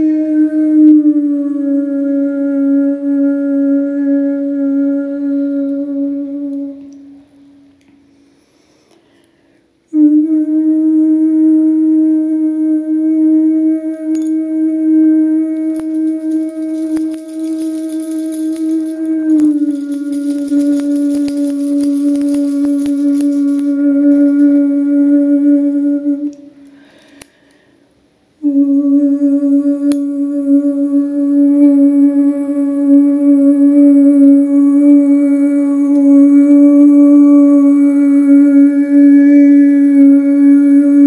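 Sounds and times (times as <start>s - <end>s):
woman humming a held note: 0.0s - 7.4s, 9.9s - 26.7s, 28.4s - 41.0s.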